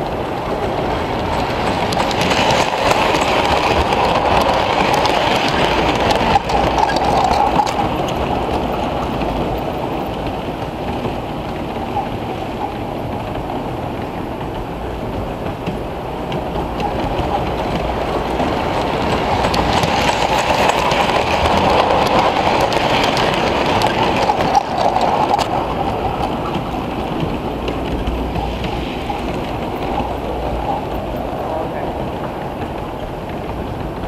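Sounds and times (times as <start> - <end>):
model train wheels rumbling and clicking: 0.0 - 34.0.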